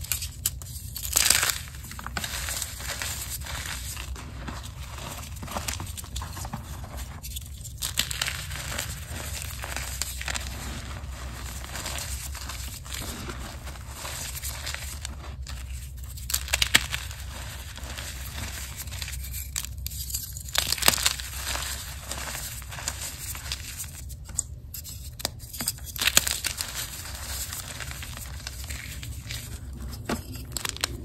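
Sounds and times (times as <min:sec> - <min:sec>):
chalk crunching between hands: 0:00.0 - 0:24.2, 0:25.7 - 0:31.0.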